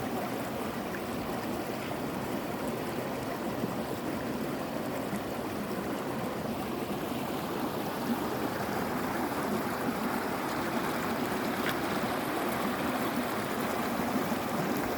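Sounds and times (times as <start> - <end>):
stream babbling: 0.0 - 14.9.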